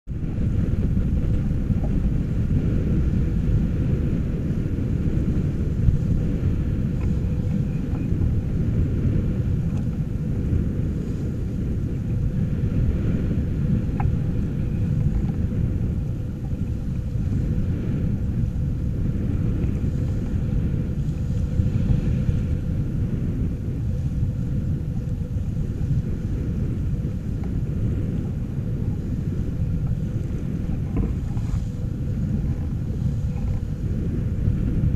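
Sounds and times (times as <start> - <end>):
water rushing along hull: 0.0 - 34.9
wind buffeting microphone: 0.0 - 34.9
faint steady hum: 0.1 - 34.9.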